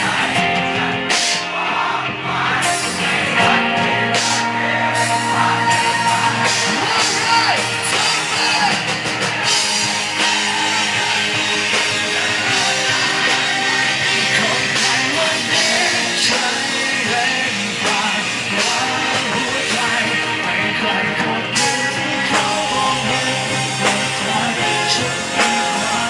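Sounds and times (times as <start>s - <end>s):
live rock band: 0.0s - 26.0s
man singing: 3.5s - 26.0s.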